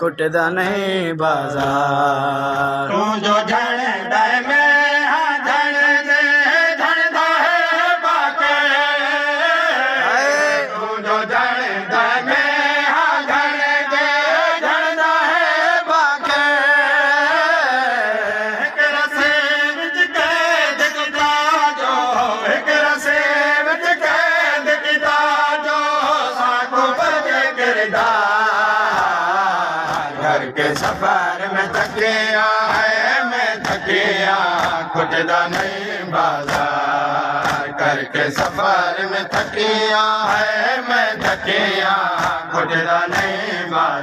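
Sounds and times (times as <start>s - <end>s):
men chanting a lament: 0.0s - 44.0s.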